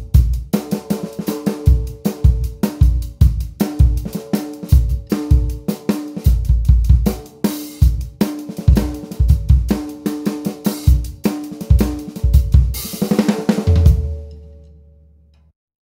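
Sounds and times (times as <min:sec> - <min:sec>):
drum kit playing a groove: 0:00.0 - 0:14.6.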